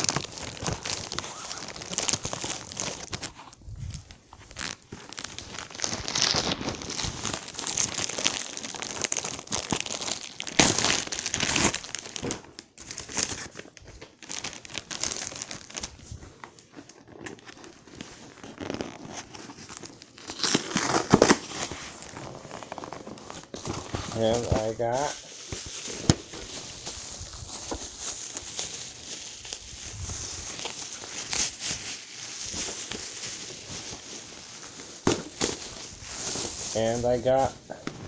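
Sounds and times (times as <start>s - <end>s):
packaging crinkling and tearing: 0.0s - 38.0s.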